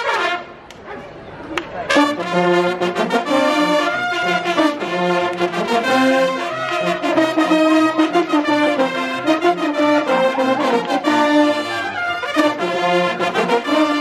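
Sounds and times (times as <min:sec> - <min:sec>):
brass fanfare: 0:00.0 - 0:00.6, 0:01.8 - 0:14.0.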